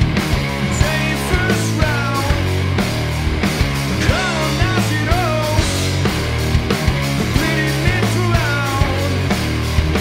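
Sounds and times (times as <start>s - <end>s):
drum hits: 0.0s - 10.0s
rock band playing: 0.0s - 10.0s.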